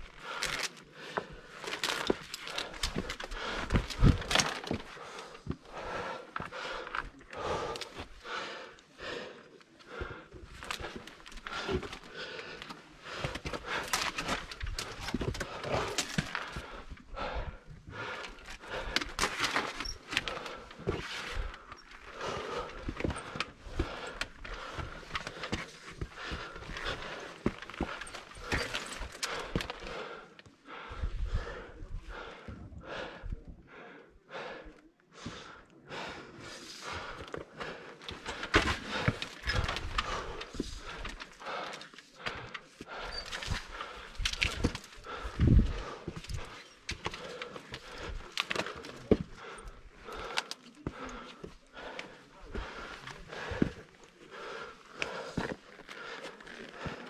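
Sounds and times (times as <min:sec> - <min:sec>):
person breathing hard and panting: 0:00.0 - 0:57.0.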